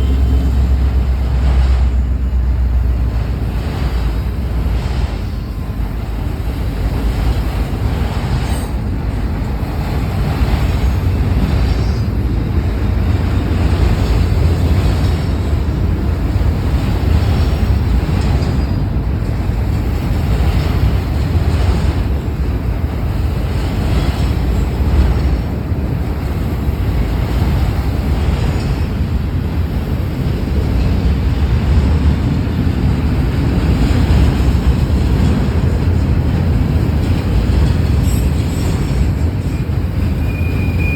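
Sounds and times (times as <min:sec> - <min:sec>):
wind buffeting microphone: 0:00.0 - 0:40.2
freight train rumbling past: 0:00.0 - 0:40.9.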